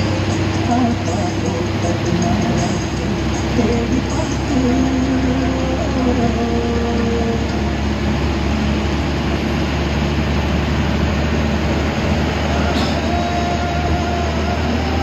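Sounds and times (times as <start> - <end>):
bus engine and road rumble: 0.0 - 15.0
driving noise hiss: 0.0 - 15.0.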